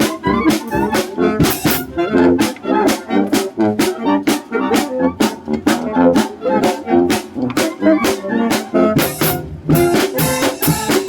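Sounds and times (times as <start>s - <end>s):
percussion strikes: 0.0s - 11.0s
wind band playing a polka: 0.0s - 11.0s.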